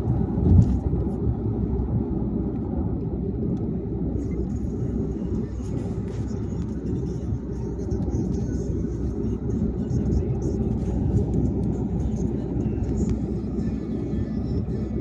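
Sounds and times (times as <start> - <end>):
car tyre and road noise: 0.0 - 15.0.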